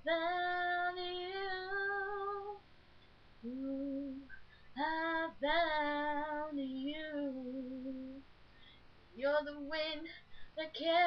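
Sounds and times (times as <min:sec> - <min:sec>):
girl singing unaccompanied: 0:00.0 - 0:02.6, 0:03.4 - 0:08.3, 0:09.2 - 0:11.0.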